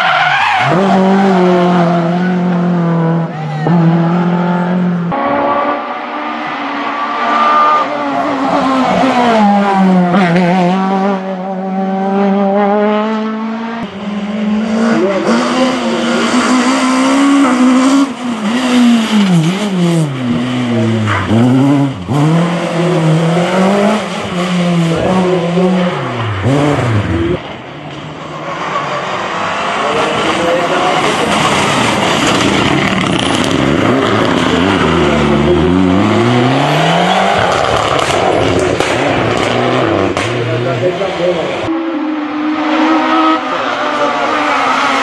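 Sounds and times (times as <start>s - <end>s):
racing car engines revving: 0.0s - 45.0s.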